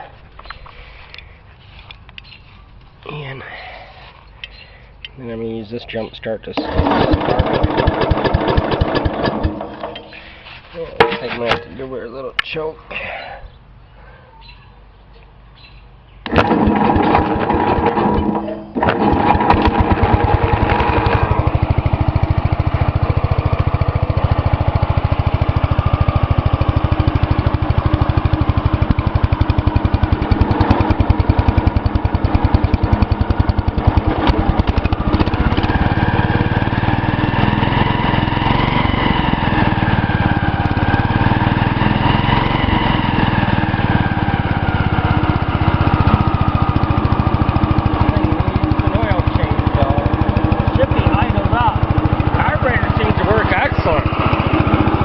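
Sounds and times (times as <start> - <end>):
garden tractor engine running: 6.4 - 12.5, 16.2 - 55.0.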